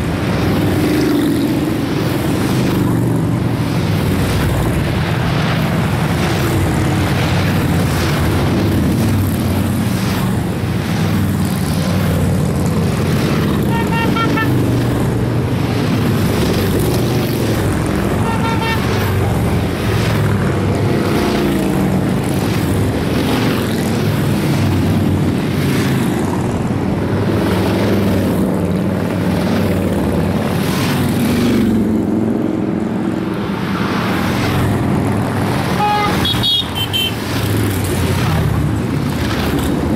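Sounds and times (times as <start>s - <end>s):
motorcycles passing on highway: 0.0s - 39.9s.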